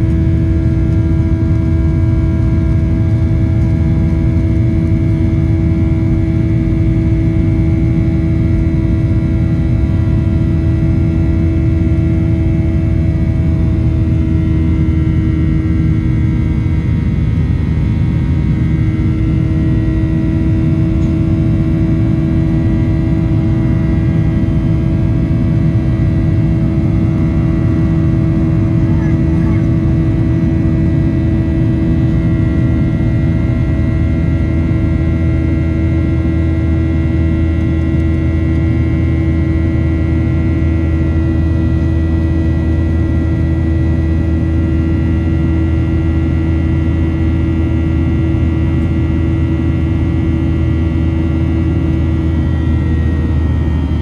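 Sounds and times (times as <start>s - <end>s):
jet engine rumble: 0.0s - 54.0s
steady hum tones: 0.0s - 54.0s.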